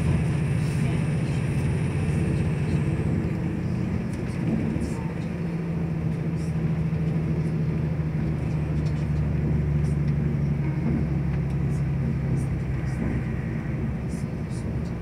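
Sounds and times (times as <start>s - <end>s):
low engine hum: 0.0s - 15.0s
wheels rumbling on track: 0.0s - 15.0s.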